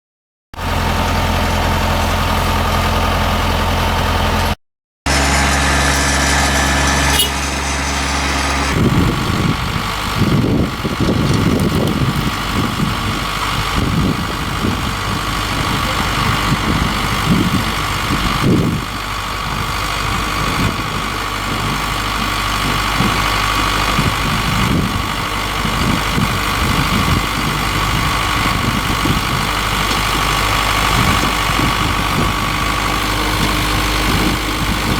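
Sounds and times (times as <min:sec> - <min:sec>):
harvesting machine engine running: 0:00.6 - 0:34.9.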